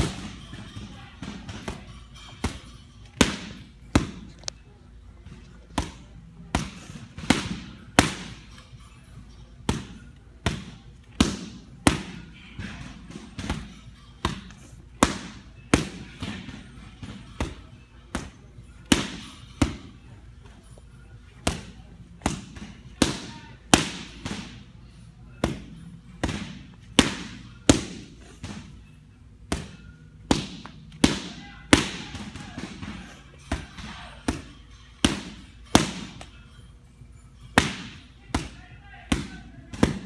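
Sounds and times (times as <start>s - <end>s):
boxing gloves hitting focus mitts: 0.0s - 4.5s, 5.4s - 8.5s, 9.2s - 20.0s, 21.4s - 24.6s, 25.3s - 28.9s, 29.5s - 36.4s, 37.5s - 40.0s.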